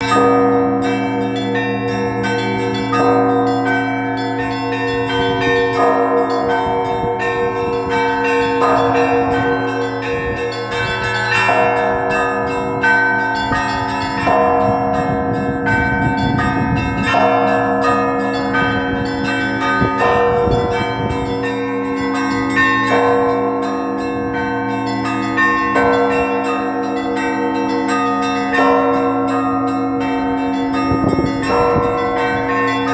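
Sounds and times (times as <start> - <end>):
deep bells humming: 0.0 - 32.9
small bells chiming rapidly: 0.0 - 32.9.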